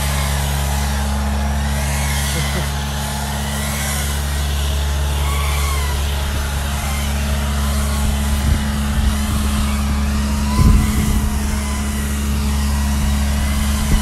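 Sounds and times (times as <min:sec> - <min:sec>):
high whine: 0:00.0 - 0:14.0
truck engine and blower drone: 0:00.0 - 0:14.0.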